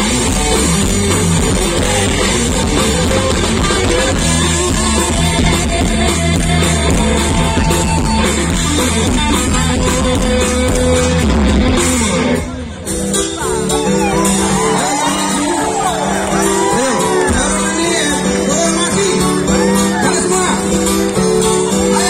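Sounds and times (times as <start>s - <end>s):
bass guitar: 0.0s - 22.0s
distorted electric guitar: 0.0s - 22.0s
drum kit: 0.0s - 22.0s.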